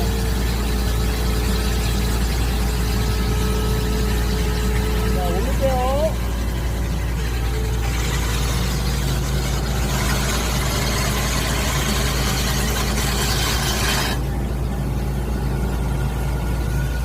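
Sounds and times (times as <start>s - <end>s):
core drill working: 0.0s - 15.0s
engine power unit humming: 0.0s - 17.0s.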